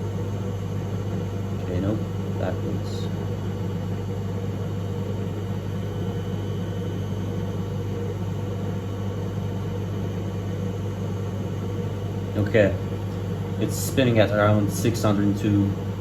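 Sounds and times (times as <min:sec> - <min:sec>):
washing machine drum spinning: 0:00.0 - 0:16.0.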